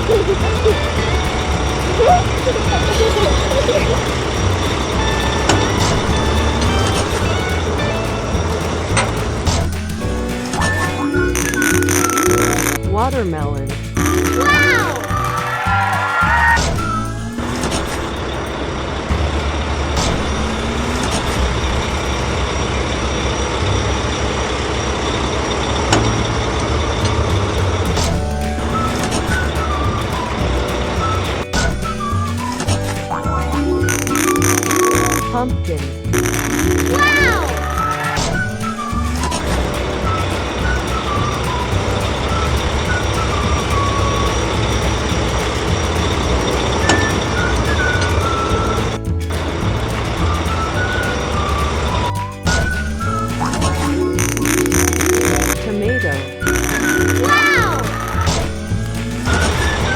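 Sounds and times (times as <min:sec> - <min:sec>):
heavy truck engine rumbling: 0:00.0 - 0:59.9.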